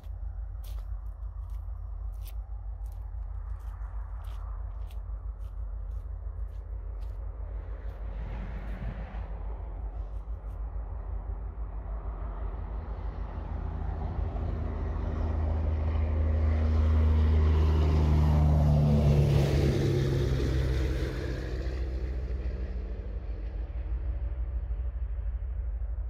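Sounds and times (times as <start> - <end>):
vehicle passing by: 0.0 - 25.8.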